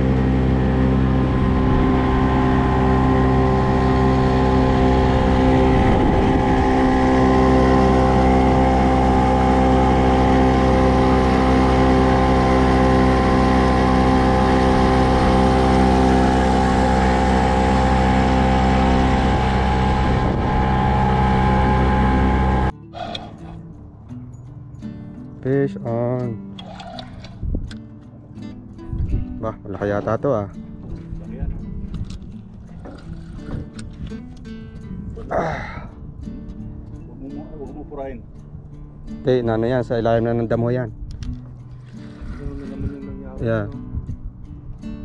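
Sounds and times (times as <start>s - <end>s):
motorboat engine running: 0.0s - 24.1s, 25.9s - 37.0s, 38.2s - 45.0s.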